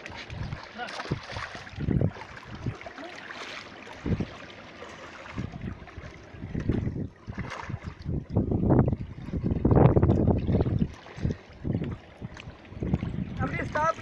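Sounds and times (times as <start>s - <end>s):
wind rumbling on microphone: 0.0s - 2.9s, 3.8s - 14.0s
seawater sloshing around people wading: 0.0s - 14.0s.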